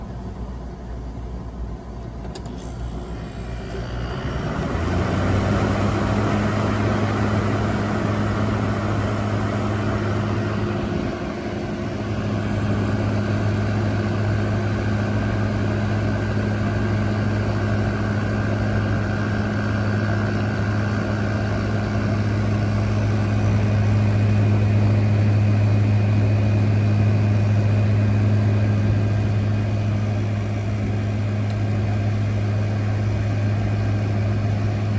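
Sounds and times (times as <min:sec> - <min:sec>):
compressor low hum: 0:00.0 - 0:34.9
fan rushing air: 0:00.0 - 0:34.9.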